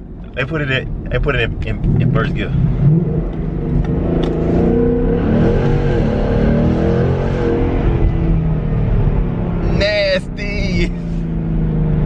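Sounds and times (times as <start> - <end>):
car engine accelerating hard: 1.1 - 12.0.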